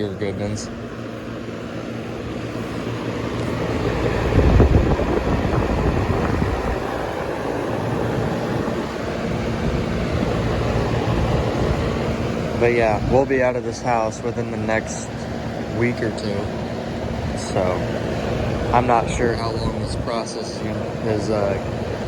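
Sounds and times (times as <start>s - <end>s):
air conditioner fan rushing: 0.0s - 22.0s
wind gust on microphone: 3.2s - 22.0s.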